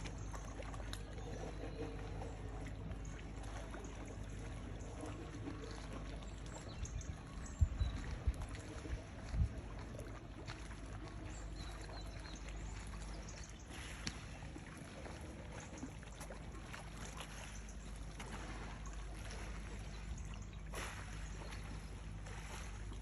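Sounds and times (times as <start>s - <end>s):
waves lapping on shore: 0.0s - 23.0s.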